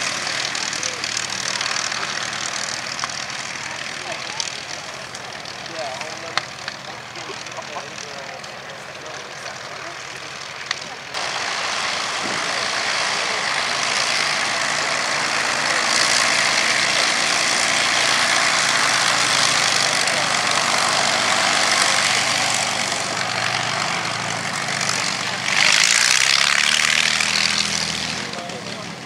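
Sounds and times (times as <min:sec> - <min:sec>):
propeller aircraft engines running: 0:00.0 - 0:29.0.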